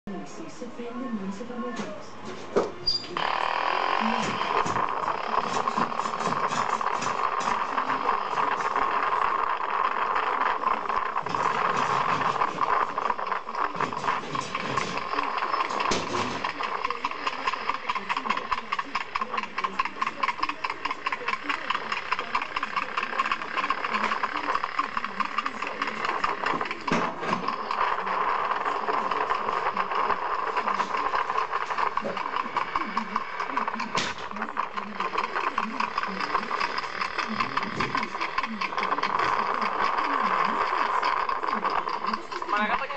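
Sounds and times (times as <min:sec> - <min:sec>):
moped engine buzzing: 0:03.2 - 0:42.9.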